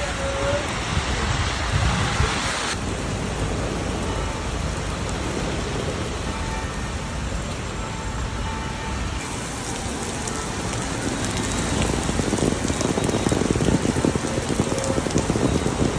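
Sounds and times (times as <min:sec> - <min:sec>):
wind rumbling: 0:00.0 - 0:07.8, 0:09.2 - 0:15.9
heavy rain pouring: 0:00.0 - 0:15.9.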